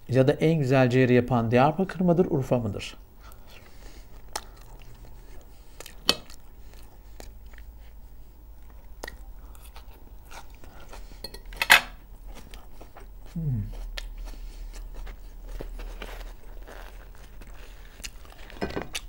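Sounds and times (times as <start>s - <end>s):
person chewing food: 3.2s - 19.0s.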